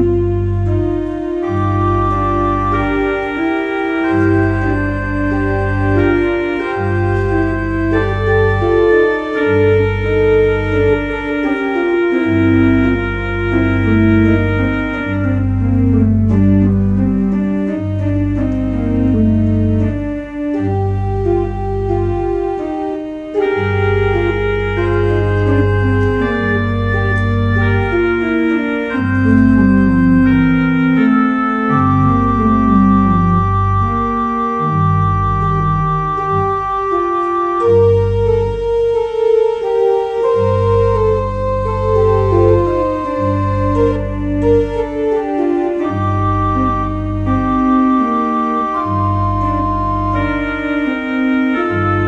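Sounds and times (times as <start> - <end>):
church organ chords: 0.0 - 52.0.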